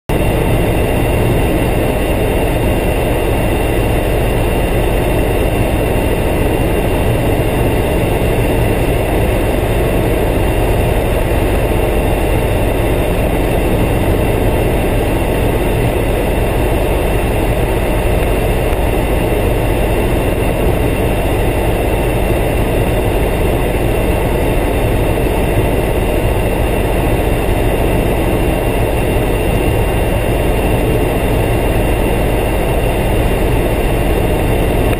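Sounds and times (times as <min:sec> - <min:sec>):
helicopter rotor and engine drone: 0:00.1 - 0:34.9.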